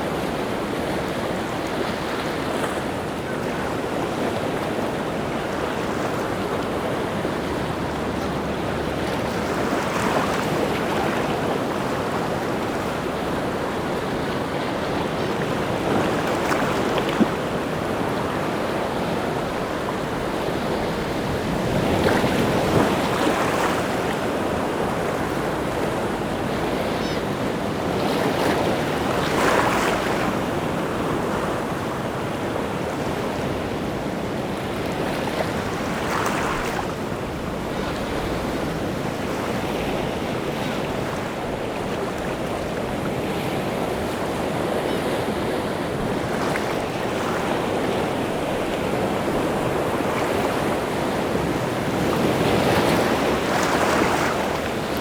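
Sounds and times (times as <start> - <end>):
sea surf breaking on shore: 0.0 - 55.0.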